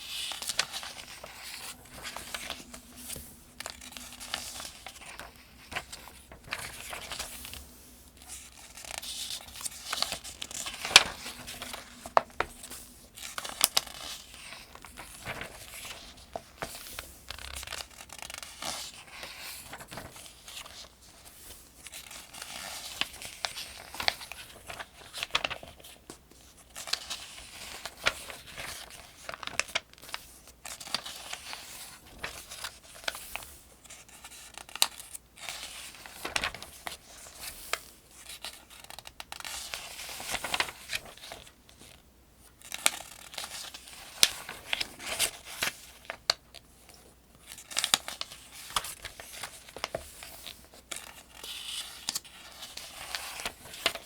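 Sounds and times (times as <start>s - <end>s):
paper pages rustling: 0.0s - 54.0s.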